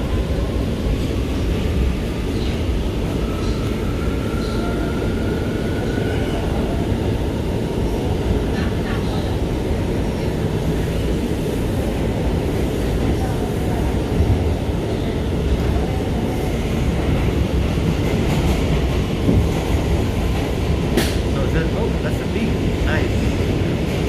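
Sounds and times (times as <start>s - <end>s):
subway train rumble in tunnel: 0.0s - 24.0s.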